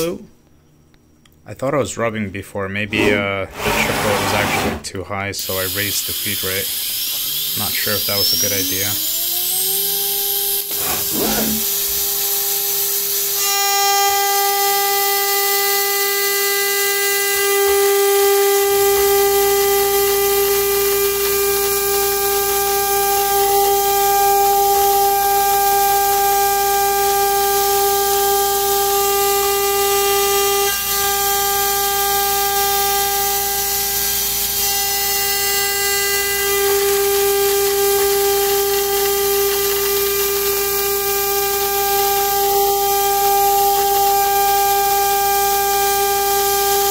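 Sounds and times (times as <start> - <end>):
router spindle whining: 5.5 - 15.3, 17.4 - 46.9.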